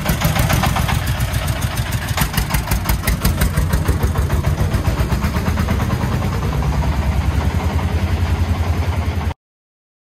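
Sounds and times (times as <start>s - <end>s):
diesel engine pulsing: 0.0s - 9.4s.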